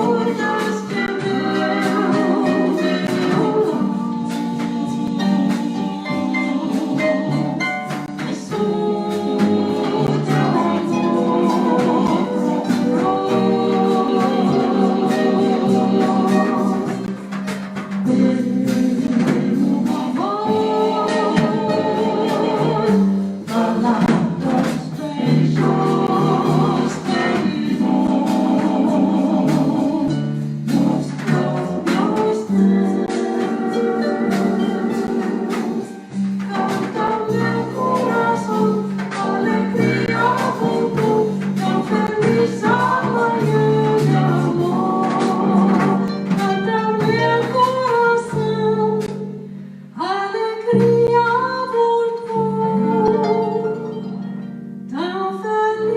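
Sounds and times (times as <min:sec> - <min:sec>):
held melody line: 0:00.0 - 0:49.6.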